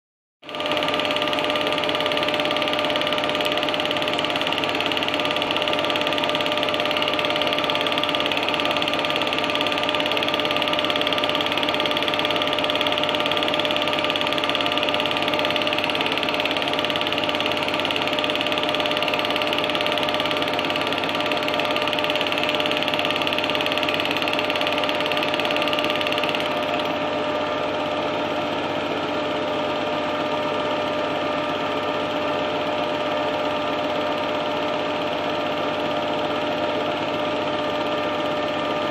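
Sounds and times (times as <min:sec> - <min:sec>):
film projector whirr and clatter: 0:00.4 - 0:38.9
motor hum: 0:00.4 - 0:38.9.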